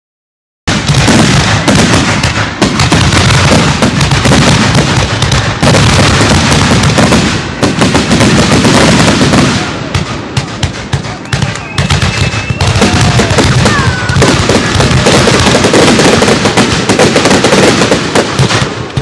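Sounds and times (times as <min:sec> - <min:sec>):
fireworks booming and crackling: 0:00.6 - 0:19.0.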